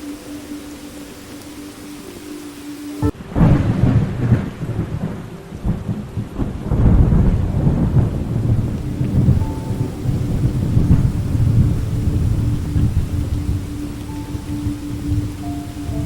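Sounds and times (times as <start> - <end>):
soft sustained musical tone: 0.0 - 16.0
steady rain: 0.0 - 16.0
thunder rumbling: 0.0 - 16.0.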